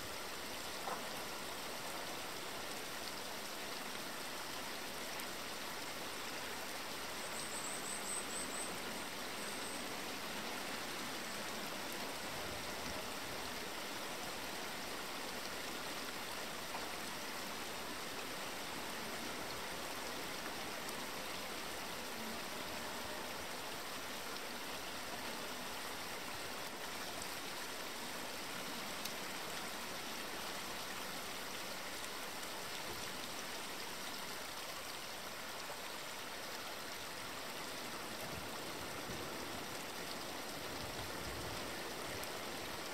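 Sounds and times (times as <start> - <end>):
stream rushing: 0.0 - 42.9.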